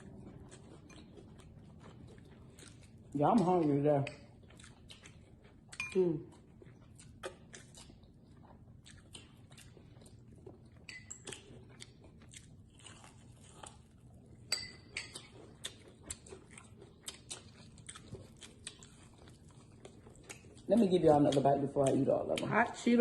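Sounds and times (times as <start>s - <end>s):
crunching and chewing food: 0.0s - 23.0s.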